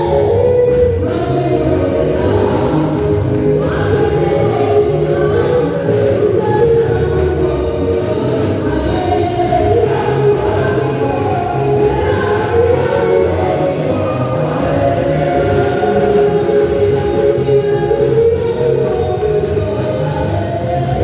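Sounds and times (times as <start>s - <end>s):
choir singing gospel: 0.0s - 21.0s
stepping bass line: 0.0s - 21.0s.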